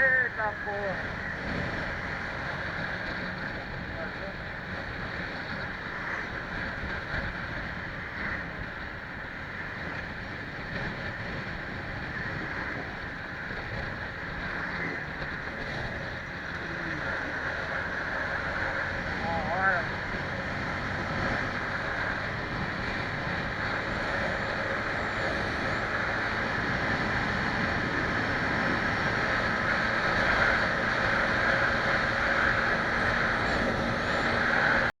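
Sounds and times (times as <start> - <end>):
vehicle driving noise: 0.0 - 35.0.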